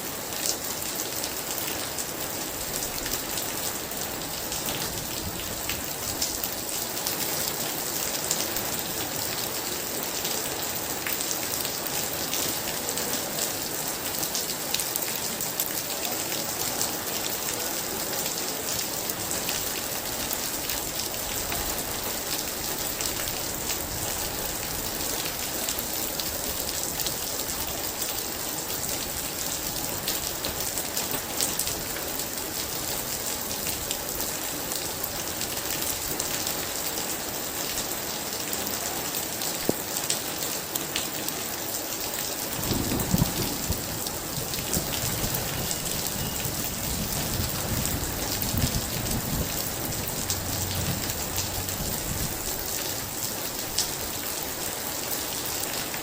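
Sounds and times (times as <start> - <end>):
heavy rain falling: 0.0 - 56.0
raindrops ticking on surface: 0.3 - 56.0.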